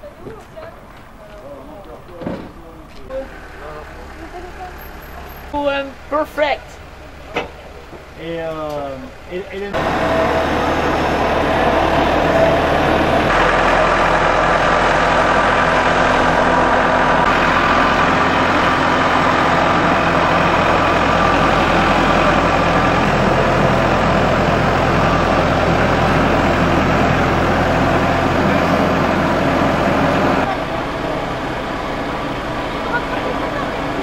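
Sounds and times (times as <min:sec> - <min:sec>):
boat hoist engine running: 0:03.3 - 0:34.0.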